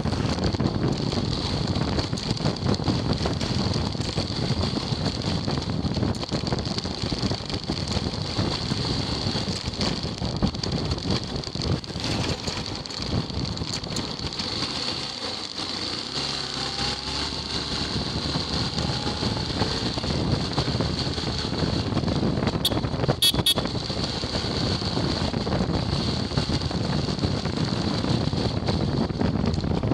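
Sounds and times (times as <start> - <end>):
motorcycle riding: 0.0 - 29.9
wind on microphone: 0.0 - 29.9.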